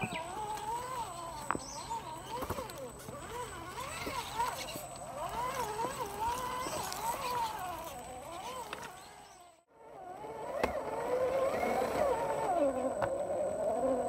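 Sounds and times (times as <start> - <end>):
electric motor and gears whining: 0.0 - 14.0.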